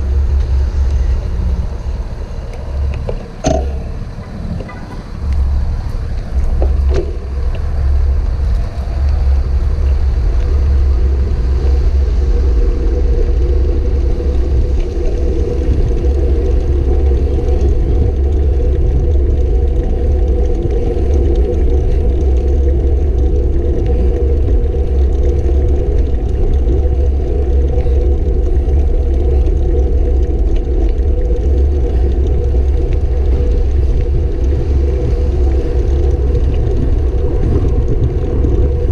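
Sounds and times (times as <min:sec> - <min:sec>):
road noise from moving bike: 0:00.0 - 0:38.9
wind rumble: 0:00.0 - 0:38.9.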